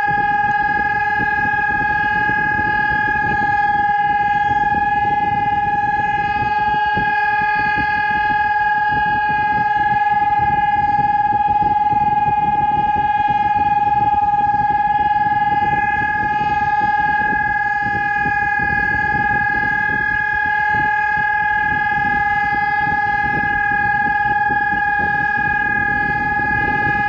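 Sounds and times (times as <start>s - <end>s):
siren steady tone: 0.0s - 27.0s.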